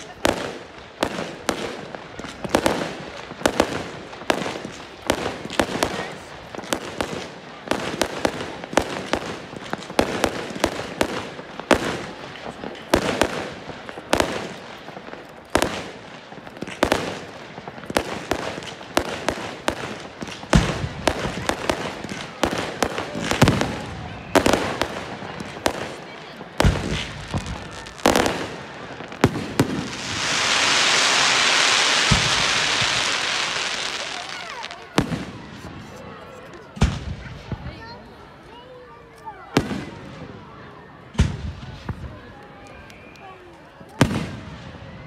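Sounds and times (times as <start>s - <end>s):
fireworks bangs and crackles: 0.0s - 45.0s
deep firework booms: 0.2s - 34.2s, 35.0s - 35.8s, 36.8s - 37.8s, 41.1s - 42.1s, 44.0s - 45.0s.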